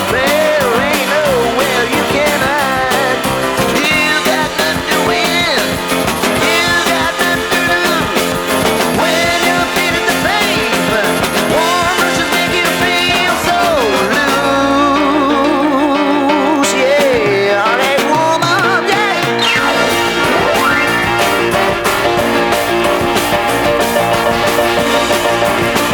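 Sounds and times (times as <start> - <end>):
band with drums: 0.0 - 25.9
person singing: 0.0 - 25.9.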